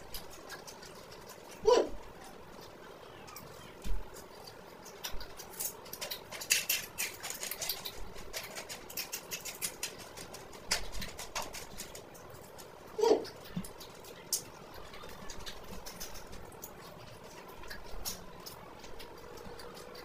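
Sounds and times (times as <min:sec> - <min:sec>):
crunching fried fish: 0:00.0 - 0:20.0.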